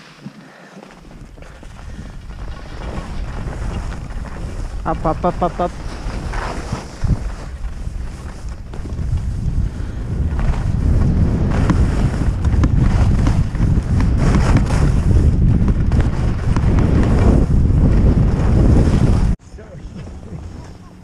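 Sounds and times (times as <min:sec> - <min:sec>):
skis scraping on snow: 0:00.0 - 0:21.0
wind buffeting microphone: 0:01.0 - 0:21.0.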